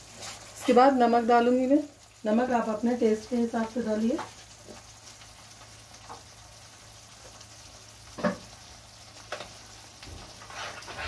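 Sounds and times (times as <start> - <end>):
gravy sizzling in a pan: 0.0 - 11.0.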